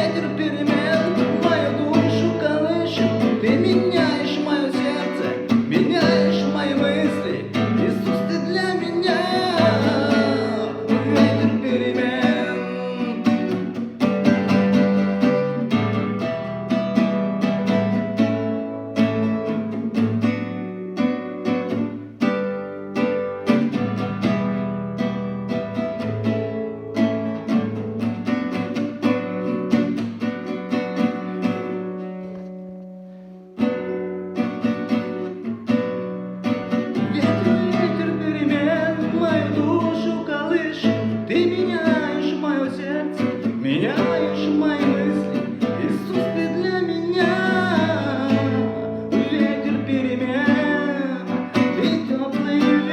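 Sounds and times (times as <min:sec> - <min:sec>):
acoustic guitar strummed and picked: 0:00.0 - 0:52.9.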